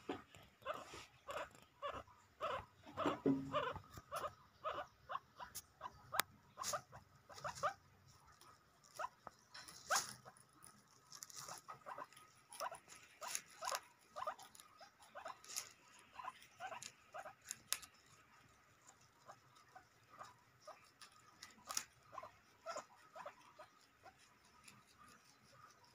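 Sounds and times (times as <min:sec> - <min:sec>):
guinea pigs chewing grass: 0:00.0 - 0:25.9.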